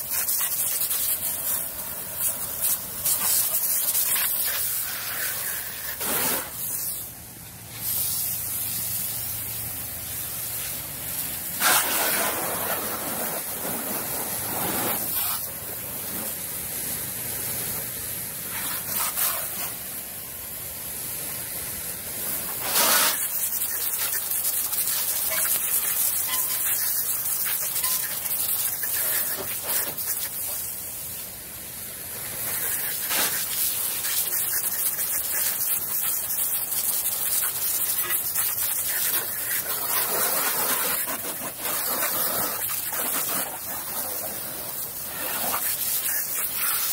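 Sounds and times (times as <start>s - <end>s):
water jet spraying on car: 0.0s - 46.9s.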